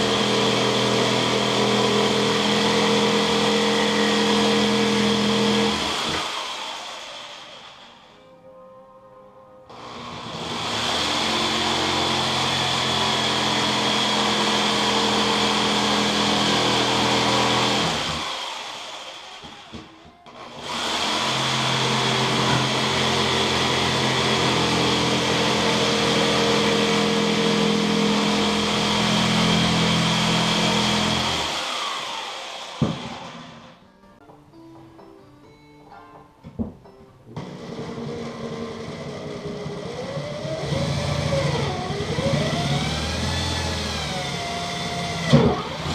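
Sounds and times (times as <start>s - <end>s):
jigsaw cutting plastic pipe: 0.0s - 8.1s, 9.7s - 33.8s, 37.4s - 45.9s.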